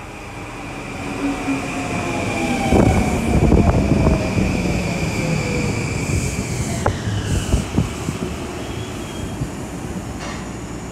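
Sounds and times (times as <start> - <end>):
electric train whine: 0.0 - 10.9.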